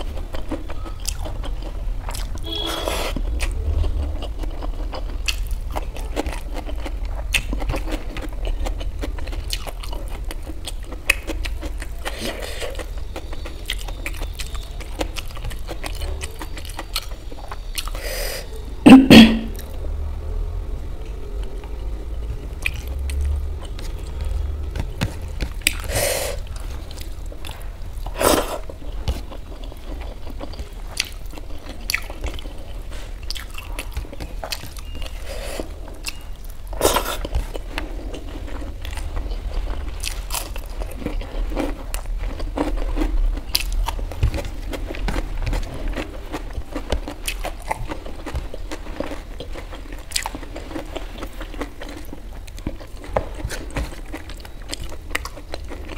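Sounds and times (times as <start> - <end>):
close-up chewing and mouth sounds: 0.0 - 18.8, 20.8 - 55.9.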